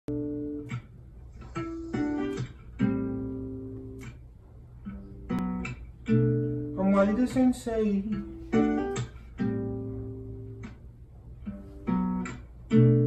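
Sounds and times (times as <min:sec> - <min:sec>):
plucked guitar notes: 0:00.1 - 0:13.0.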